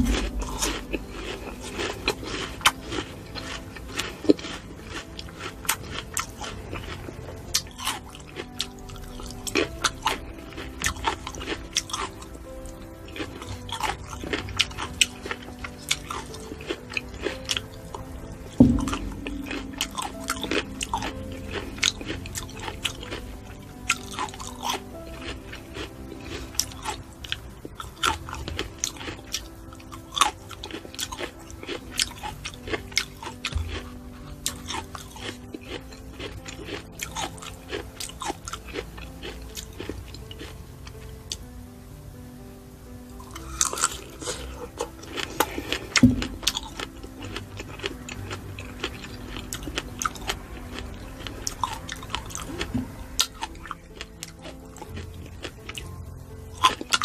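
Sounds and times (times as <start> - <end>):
fruit being bitten and chewed: 0.0 - 41.5, 43.2 - 57.0
soft background music: 0.0 - 57.0.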